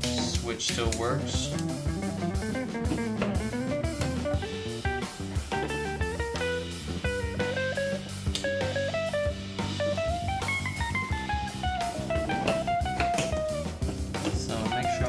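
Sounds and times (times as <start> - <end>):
blues-rock guitar melody: 0.0 - 15.0
steady drum beat: 0.0 - 15.0.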